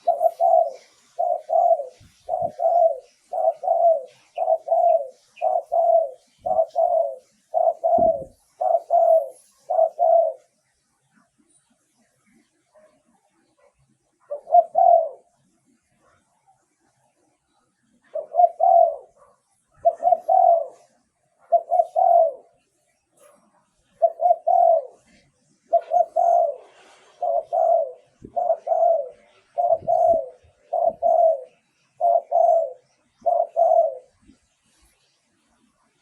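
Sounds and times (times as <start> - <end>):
dove cooing: 0.0 - 11.3, 13.6 - 16.2, 17.8 - 34.5.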